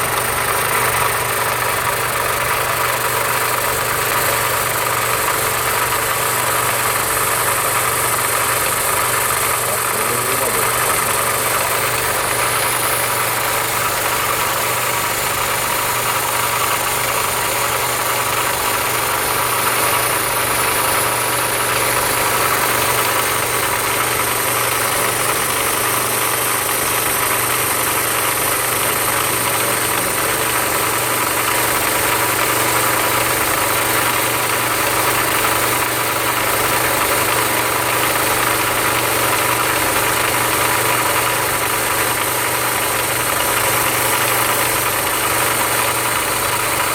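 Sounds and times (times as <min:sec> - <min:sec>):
electric sanding machine running: 0:00.0 - 0:46.9.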